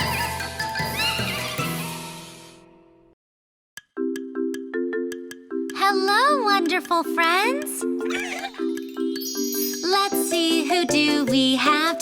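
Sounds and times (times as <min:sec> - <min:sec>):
cartoon music with held chords: 0:00.0 - 0:03.2, 0:03.8 - 0:12.0.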